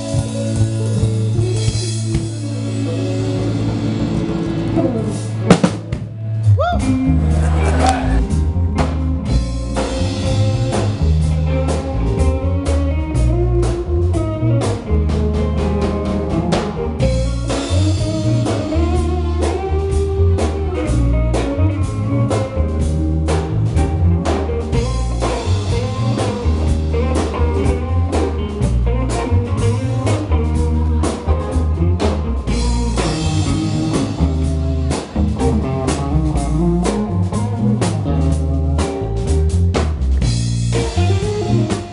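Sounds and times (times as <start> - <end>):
bass guitar: 0.0 - 41.9
drum kit: 0.0 - 41.9
electric guitar lead: 0.0 - 41.9.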